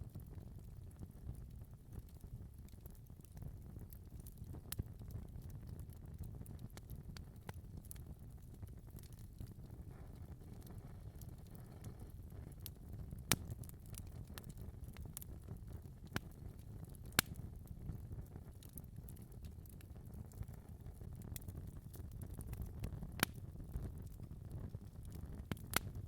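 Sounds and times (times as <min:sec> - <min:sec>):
fire crackling in a fireplace: 0:00.0 - 0:26.0.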